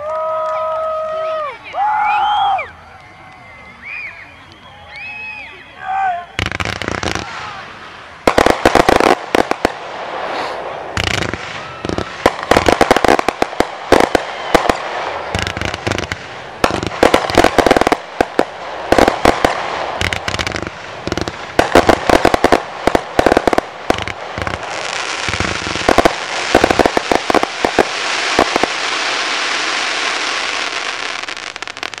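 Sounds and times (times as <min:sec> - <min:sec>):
fireworks reports: 0:00.4 - 0:32.0
steady hiss: 0:02.8 - 0:32.0.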